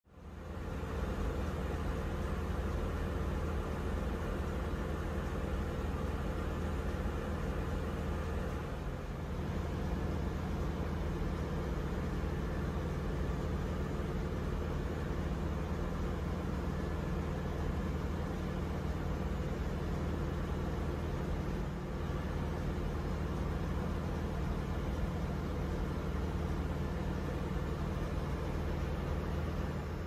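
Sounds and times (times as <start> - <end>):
engine room machinery droning: 0.0 - 30.0.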